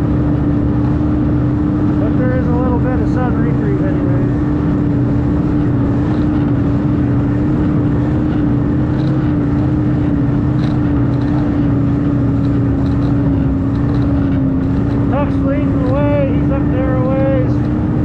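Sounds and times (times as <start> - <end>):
snowmobile engine droning: 0.0 - 18.0.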